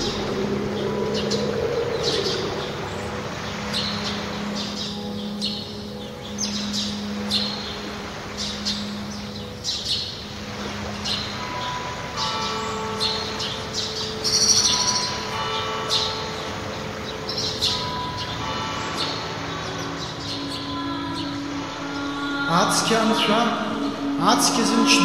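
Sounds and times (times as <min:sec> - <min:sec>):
birds chirping: 0:00.0 - 0:25.0
soft sustained music chords: 0:00.0 - 0:25.0.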